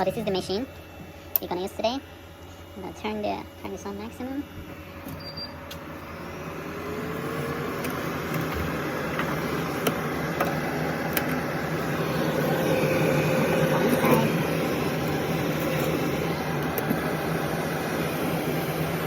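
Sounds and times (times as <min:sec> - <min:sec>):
machine fan hum: 0:00.0 - 0:19.0.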